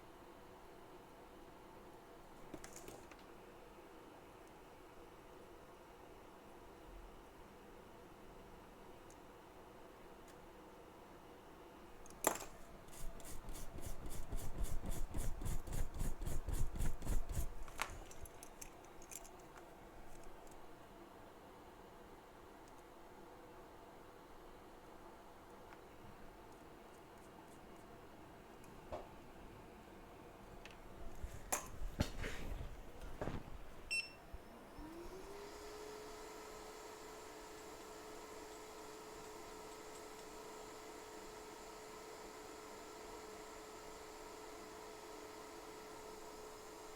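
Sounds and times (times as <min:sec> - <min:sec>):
blower humming with airflow hiss: 0:00.0 - 0:46.9.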